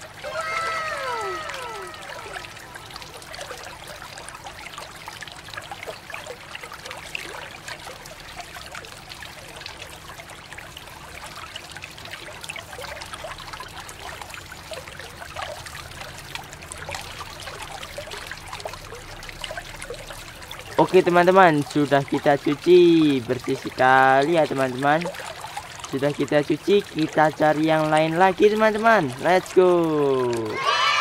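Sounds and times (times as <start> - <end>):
water pouring and splashing: 0.0 - 31.0.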